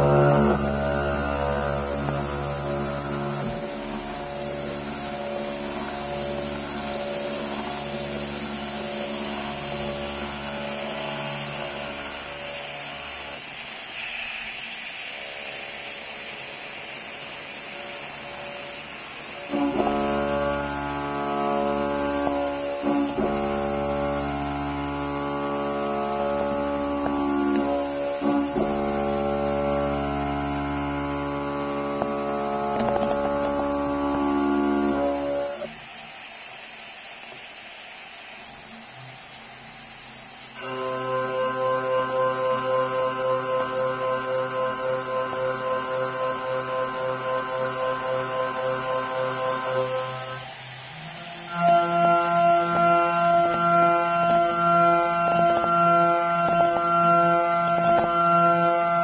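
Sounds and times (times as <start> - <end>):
milling machine cutting whine: 0.0 - 14.1, 19.4 - 35.7, 40.6 - 59.0.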